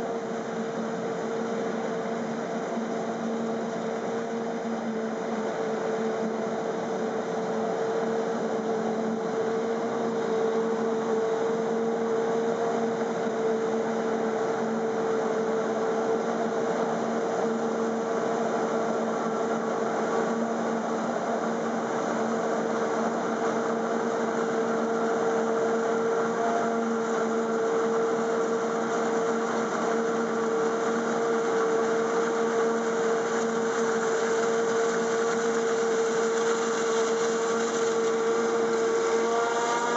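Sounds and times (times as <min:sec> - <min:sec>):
steady machine whine: 0:00.0 - 0:39.9.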